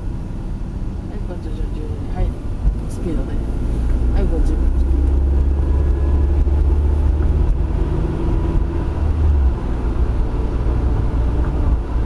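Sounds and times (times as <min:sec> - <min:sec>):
car engine accelerating: 0:00.0 - 0:12.0
road noise inside car: 0:00.0 - 0:12.0.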